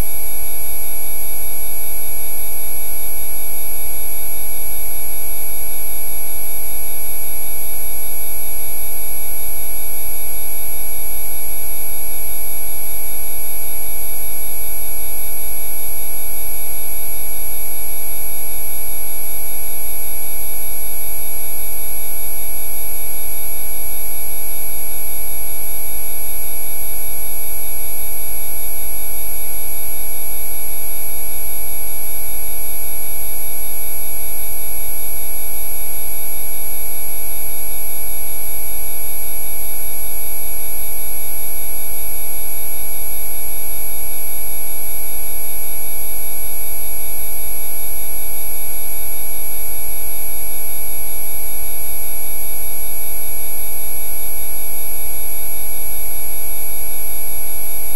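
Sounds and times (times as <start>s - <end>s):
electronic tones from buzz to whine: 0.0s - 57.9s.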